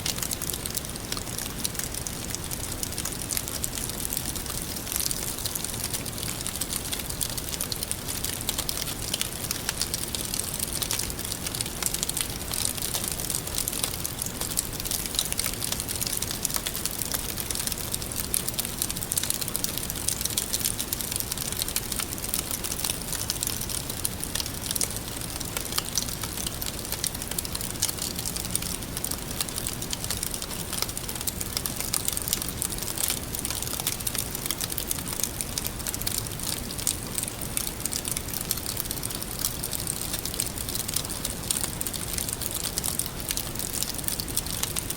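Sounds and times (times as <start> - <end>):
open fire crackling: 0.0 - 44.9.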